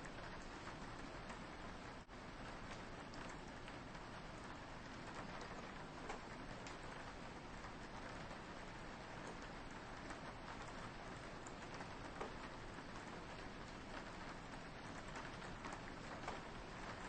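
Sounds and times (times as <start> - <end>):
rain on a window: 0.0 - 17.0
raindrops ticking: 0.1 - 17.0.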